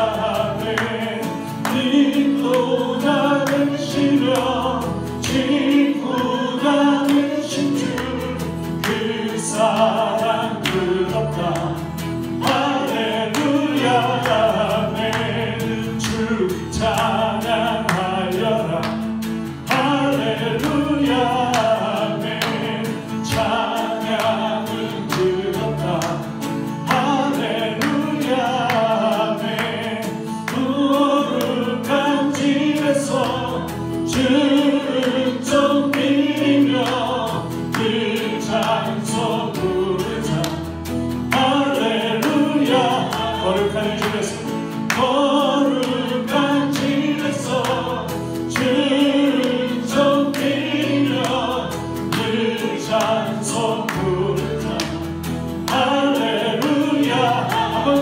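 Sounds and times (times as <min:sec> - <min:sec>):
choir singing worship song: 0:00.0 - 0:58.0
instrumental accompaniment: 0:00.0 - 0:58.0.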